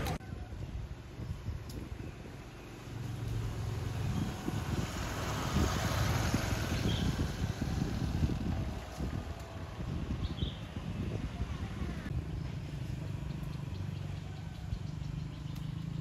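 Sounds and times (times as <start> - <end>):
wind buffeting microphone: 0.0 - 13.6
vehicle rushing by: 2.8 - 16.0.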